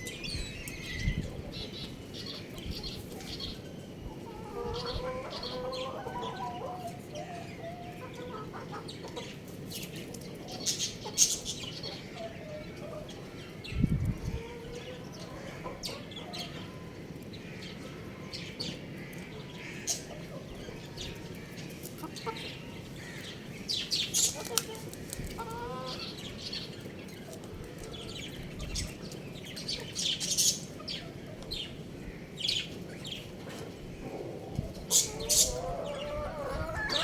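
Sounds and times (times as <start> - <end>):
young chickens clucking and chirping: 0.0 - 37.0.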